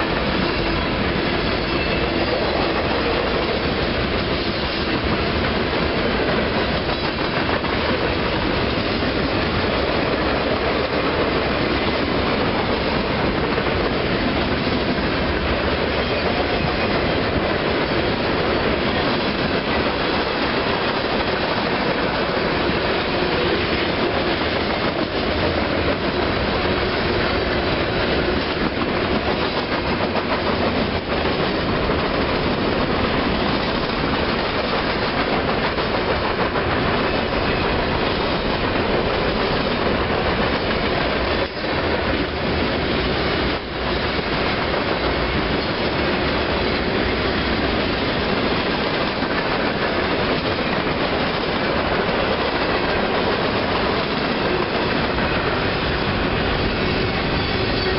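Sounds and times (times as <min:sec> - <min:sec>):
train wheels on rails: 0:00.0 - 0:57.9.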